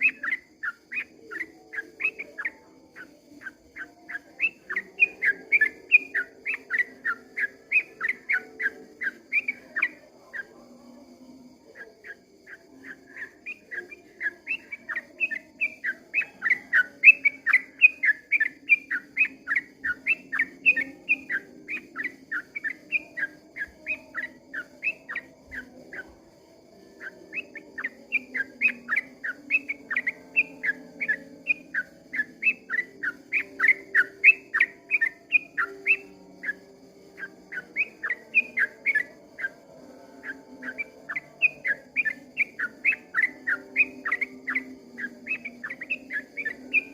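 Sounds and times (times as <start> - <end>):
bird singing whistled notes: 0.0 - 46.9.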